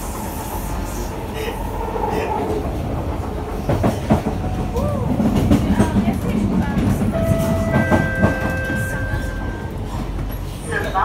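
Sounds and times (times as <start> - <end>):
train clacks: 0.0 - 11.0
train wheels rumbling on rail: 0.0 - 11.0.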